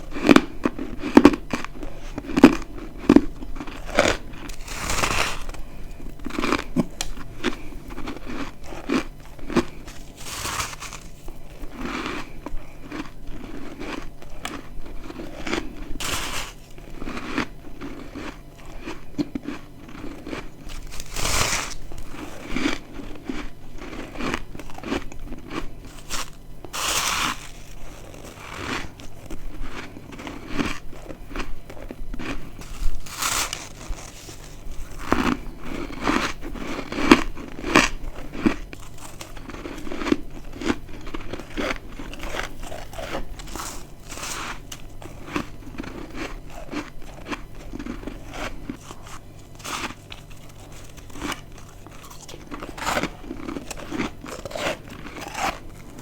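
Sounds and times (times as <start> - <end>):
crunching frost chunks: 0.0 - 56.0.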